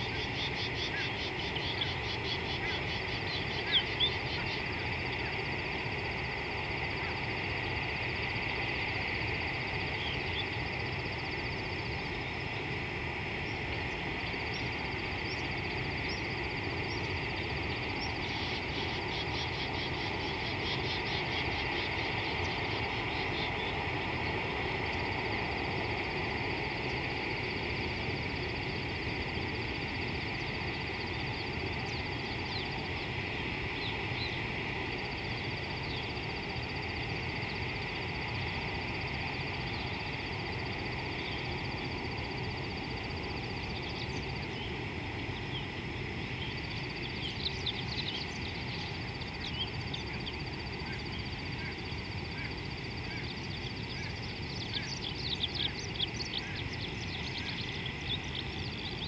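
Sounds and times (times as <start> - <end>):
insect chorus buzzing and trilling: 0.0 - 59.0.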